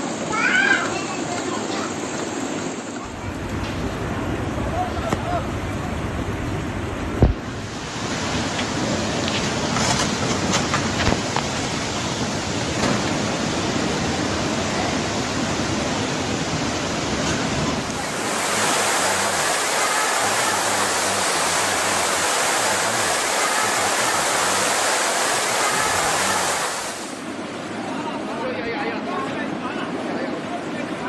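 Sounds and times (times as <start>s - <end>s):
water rushing: 0.0s - 27.4s.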